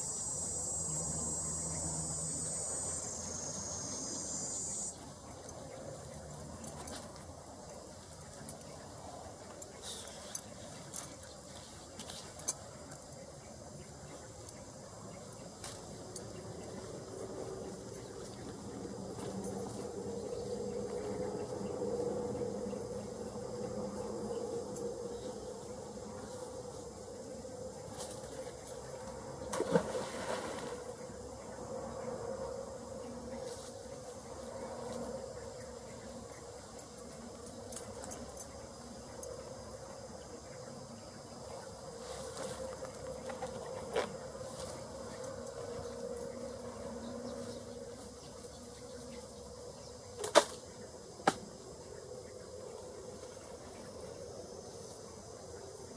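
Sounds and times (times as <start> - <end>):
low buzzing hum: 0.0 - 55.9
outdoor background hiss: 0.0 - 55.9.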